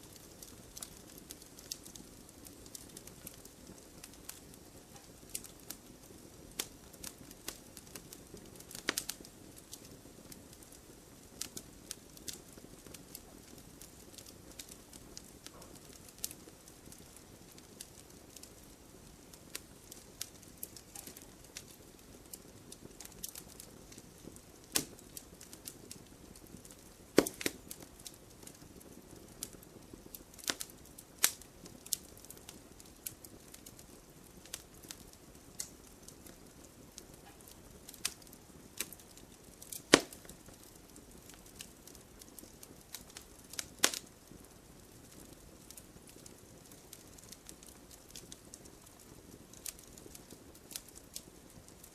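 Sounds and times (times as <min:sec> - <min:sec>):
loud fire pops: 0:00.0 - 0:51.9
wood fire crackling: 0:00.0 - 0:51.9.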